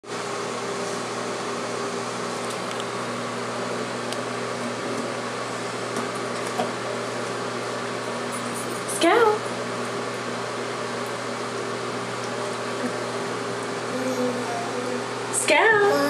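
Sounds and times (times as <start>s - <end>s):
exhaust fan humming: 0.0s - 16.0s.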